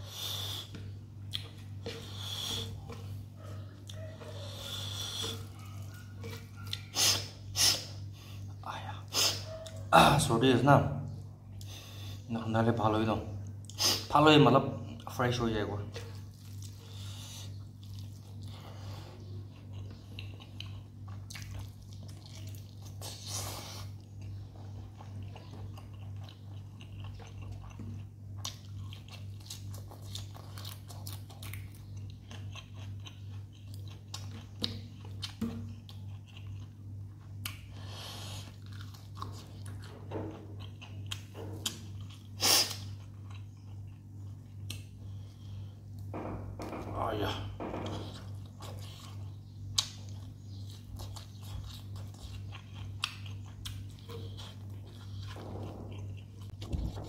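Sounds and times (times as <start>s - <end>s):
chewing and crunching food: 0.0s - 9.9s, 11.1s - 46.2s, 47.2s - 57.0s
steady low hum: 0.0s - 57.0s.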